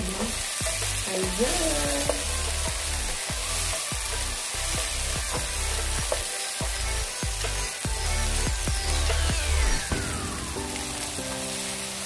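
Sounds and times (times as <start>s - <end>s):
background music with steady beat: 0.0s - 12.0s
vegetables sizzling in oil: 0.0s - 12.0s.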